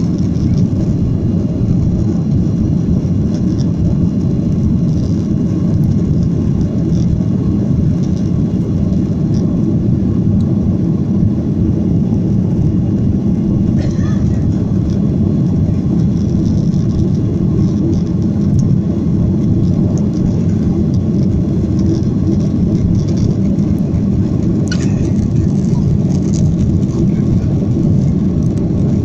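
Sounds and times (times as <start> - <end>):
airplane cabin engine rumble: 0.0 - 29.0.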